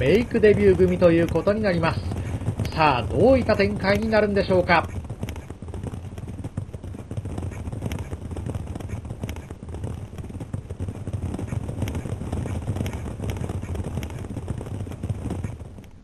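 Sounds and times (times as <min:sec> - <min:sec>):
horse hoofbeats: 0:00.0 - 0:16.0.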